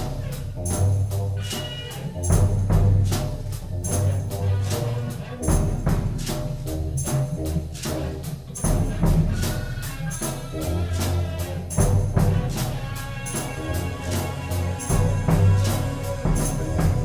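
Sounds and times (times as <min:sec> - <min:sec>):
struck percussion hits: 0:00.0 - 0:17.0.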